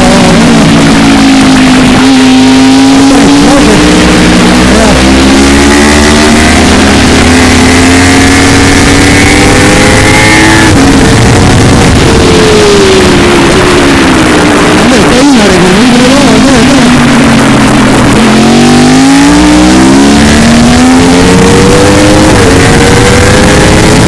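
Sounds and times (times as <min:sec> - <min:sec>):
rush of noise: 0:00.0 - 0:24.0
vehicle engine pulling hard: 0:00.0 - 0:24.0.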